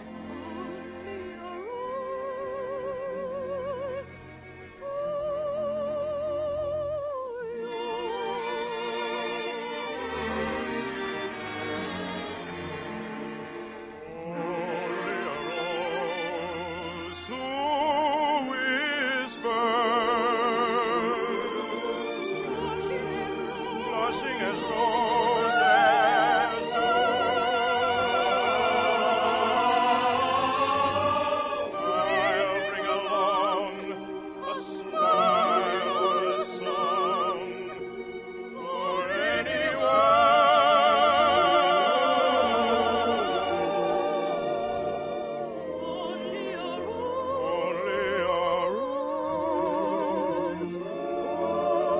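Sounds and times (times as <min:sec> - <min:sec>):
operatic singing: 0:00.0 - 0:51.9
orchestral accompaniment: 0:07.6 - 0:51.9.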